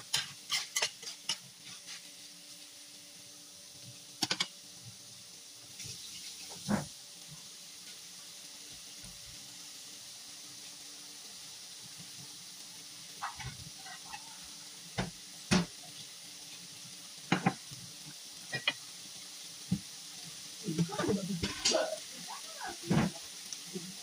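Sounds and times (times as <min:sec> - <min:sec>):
stir-fry sizzling in pan: 0:00.0 - 0:24.0.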